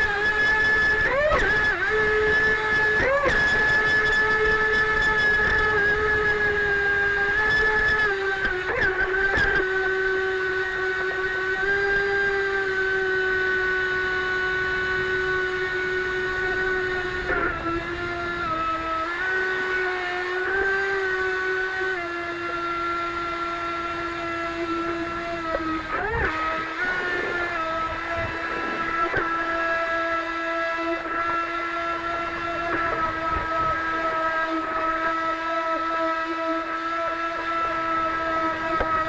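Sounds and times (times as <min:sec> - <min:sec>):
model jet boat motor whining: 0:00.0 - 0:39.0.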